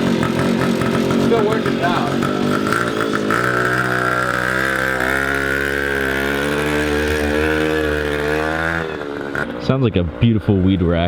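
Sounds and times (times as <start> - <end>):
small two-stroke engine running: 0.0 - 11.0.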